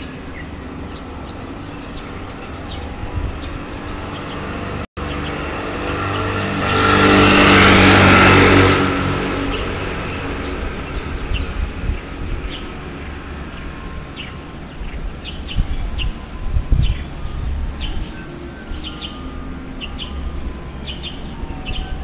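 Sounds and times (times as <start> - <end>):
vehicle driving past: 0.0 - 22.0.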